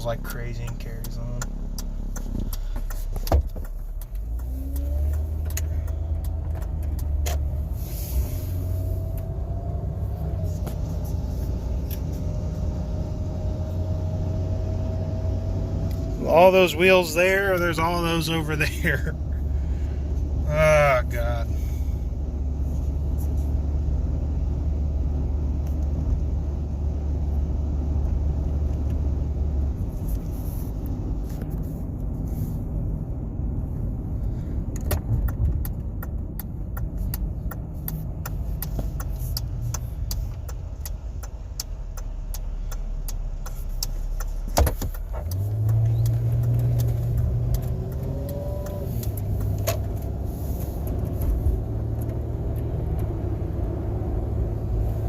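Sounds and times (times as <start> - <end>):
car engine and road hum: 0.0 - 55.0.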